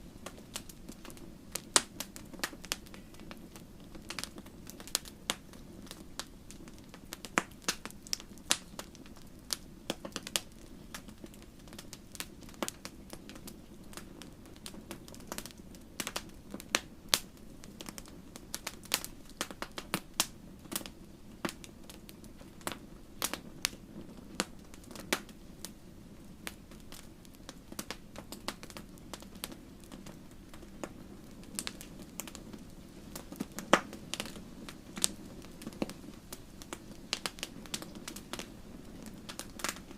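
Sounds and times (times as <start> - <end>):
low rush of flame: 0.0 - 39.9
wood fire crackling: 0.0 - 39.9.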